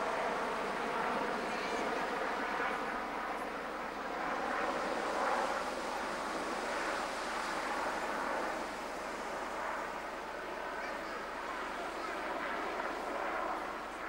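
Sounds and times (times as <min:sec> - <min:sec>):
helicopter flying overhead: 0:00.0 - 0:14.0.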